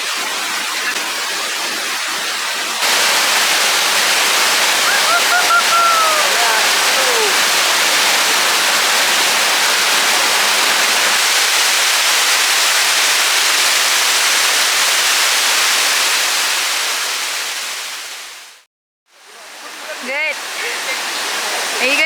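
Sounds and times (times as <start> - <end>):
waterfall rushing: 2.8 - 18.6, 19.2 - 22.0.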